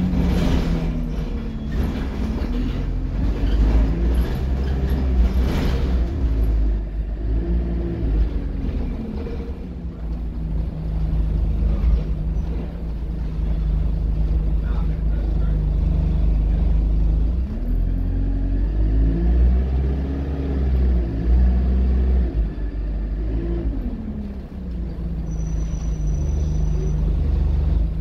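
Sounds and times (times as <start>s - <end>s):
bus engine low drone: 0.0s - 28.0s
rattling inside bus: 0.0s - 28.0s.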